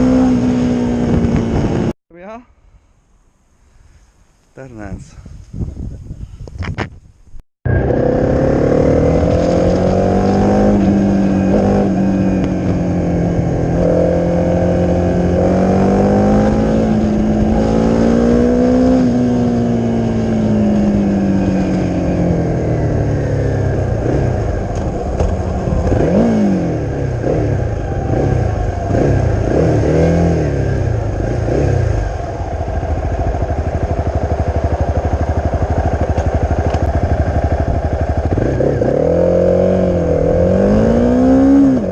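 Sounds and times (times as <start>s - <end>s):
motorcycle engine running: 0.0s - 1.9s, 7.7s - 41.9s.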